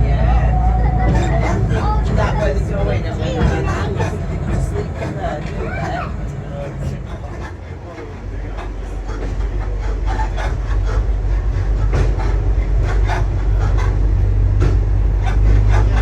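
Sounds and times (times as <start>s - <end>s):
railbus engine droning: 0.0s - 16.0s.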